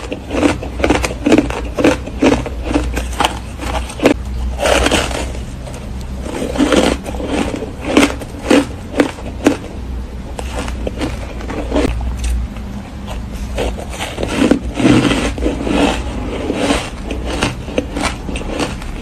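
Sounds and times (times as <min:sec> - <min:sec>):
ice being crunched and chewed: 0:00.0 - 0:12.4, 0:13.0 - 0:19.0.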